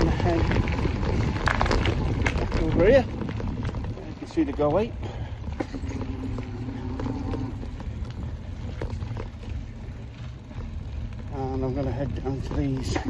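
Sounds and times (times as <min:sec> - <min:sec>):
tyre noise: 0:00.0 - 0:13.0
wind buffeting microphone: 0:00.0 - 0:13.0.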